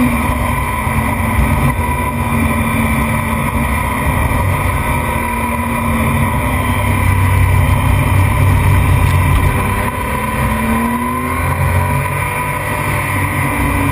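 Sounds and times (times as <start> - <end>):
racing motorcycle engine: 0.0 - 13.9.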